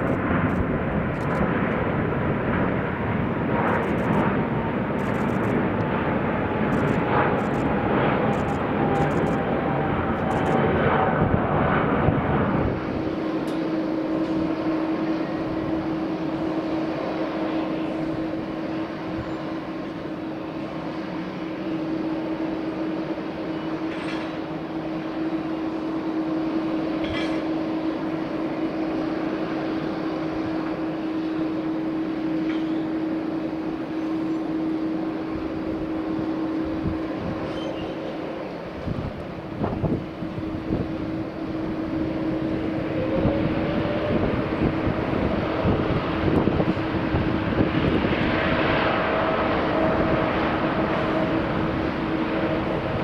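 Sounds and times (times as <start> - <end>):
jet engines droning: 0.0 - 53.0.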